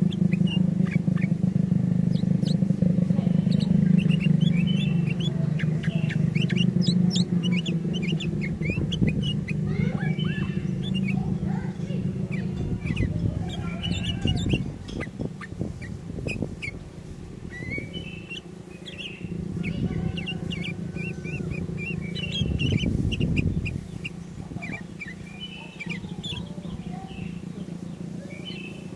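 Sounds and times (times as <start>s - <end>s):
bird chirping and whistling: 0.0s - 16.8s, 17.4s - 27.4s
low rumble: 0.0s - 25.4s.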